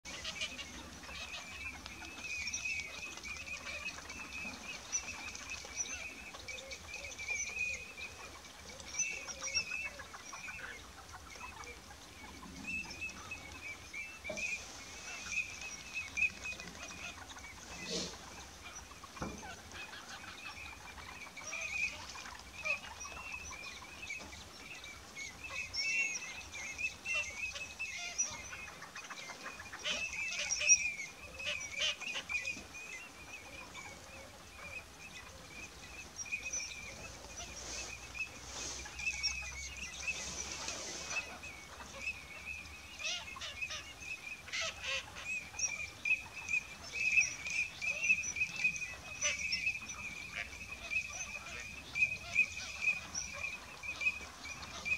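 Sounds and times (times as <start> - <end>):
flock of birds calling: 0.0 - 54.9.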